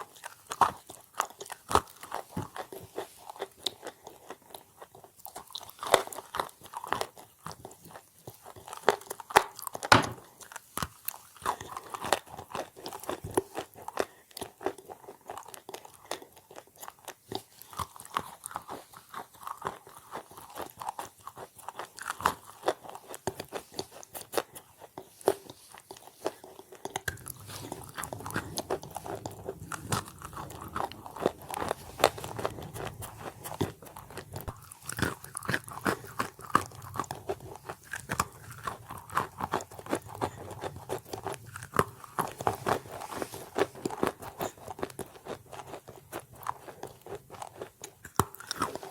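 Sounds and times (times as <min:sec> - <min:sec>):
chalk crunching while chewed: 0:00.0 - 0:48.9.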